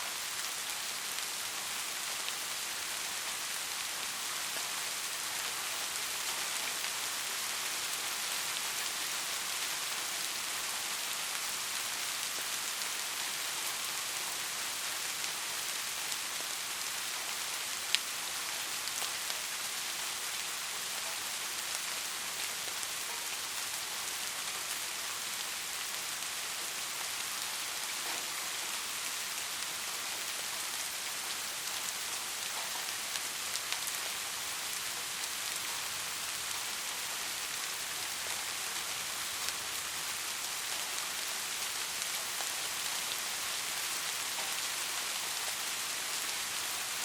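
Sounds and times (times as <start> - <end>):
steady rain hiss: 0.0 - 47.0.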